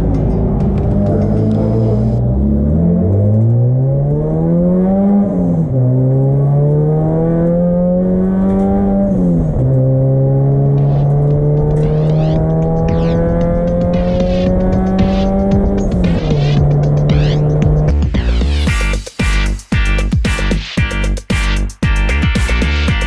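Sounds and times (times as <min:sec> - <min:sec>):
turbocharged car engine accelerating: 0:00.0 - 0:20.0.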